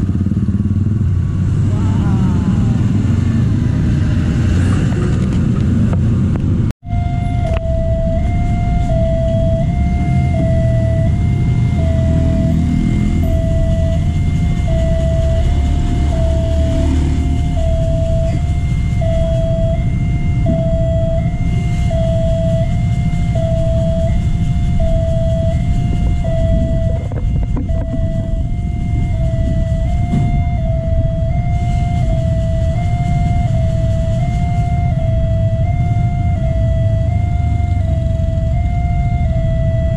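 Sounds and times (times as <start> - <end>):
forklift engine driving past: 0.0 - 39.9
road traffic rumble: 0.0 - 39.9
level crossing alarm tone: 6.8 - 39.9.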